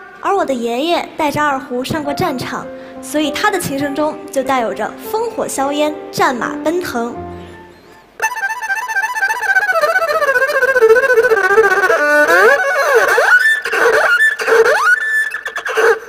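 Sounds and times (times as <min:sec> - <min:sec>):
solo erhu melody: 0:02.0 - 0:16.0.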